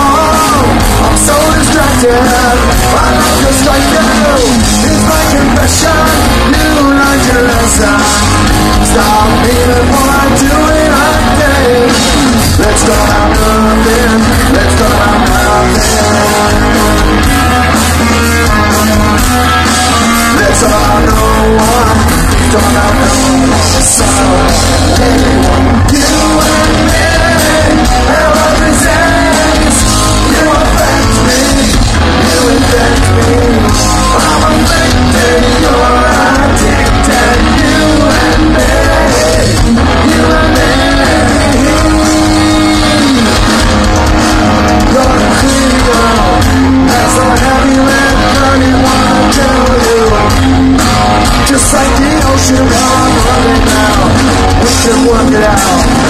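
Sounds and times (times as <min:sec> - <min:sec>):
punk rock band playing live: 0:00.0 - 0:56.0
shouted lead vocal: 0:00.0 - 0:56.0.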